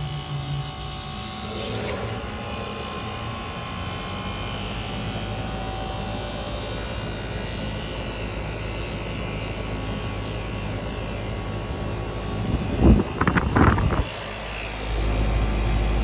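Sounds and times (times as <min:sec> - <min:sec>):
heat pump compressor hum: 0:00.0 - 0:16.0.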